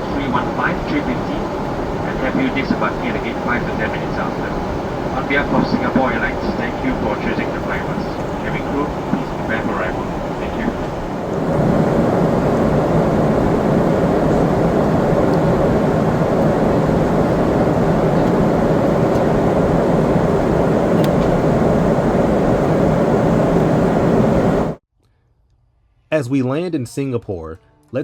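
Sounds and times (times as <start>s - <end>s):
jet engine rumble and airflow: 0.0s - 24.8s.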